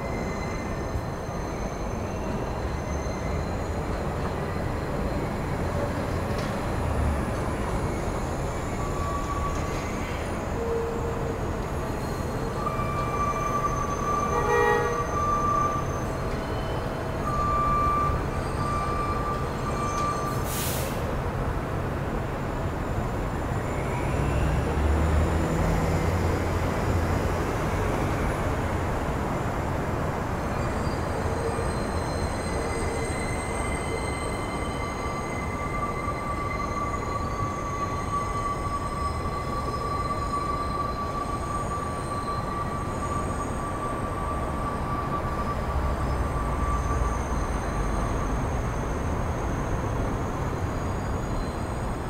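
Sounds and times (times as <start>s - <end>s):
high wheel squeal: 0.0s - 21.2s, 22.6s - 52.0s
train wheels rumbling on track: 0.0s - 52.0s.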